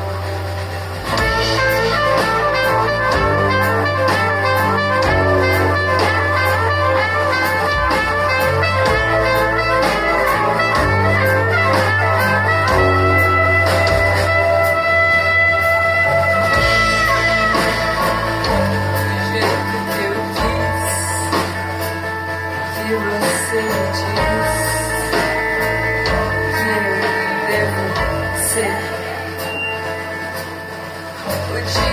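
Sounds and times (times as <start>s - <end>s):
bass line: 0.0s - 31.9s
drums: 0.0s - 31.9s
lead instrument holding long notes: 0.0s - 31.9s.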